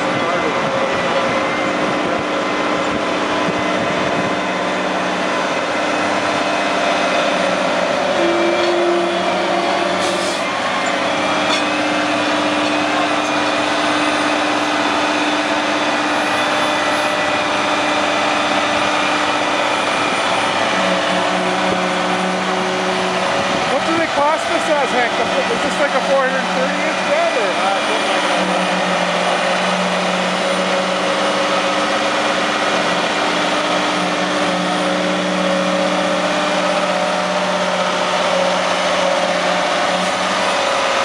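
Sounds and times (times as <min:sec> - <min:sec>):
heavy diesel truck engines running: 0:00.0 - 0:41.0.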